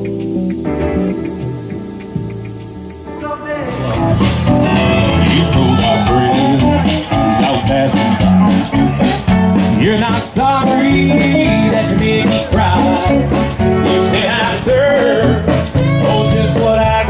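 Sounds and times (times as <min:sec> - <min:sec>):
country band playing: 0:00.0 - 0:17.0
man singing: 0:03.1 - 0:17.0.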